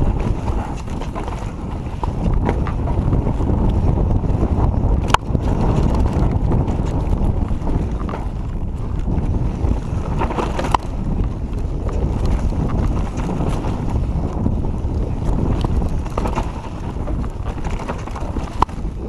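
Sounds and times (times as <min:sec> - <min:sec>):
mountain bike rumble and rattle: 0:00.0 - 0:19.0
wind buffeting microphone: 0:00.0 - 0:19.0.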